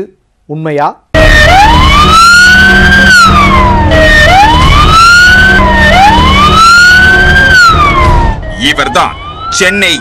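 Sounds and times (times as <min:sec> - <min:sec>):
ambulance siren wailing: 0:01.2 - 0:10.0.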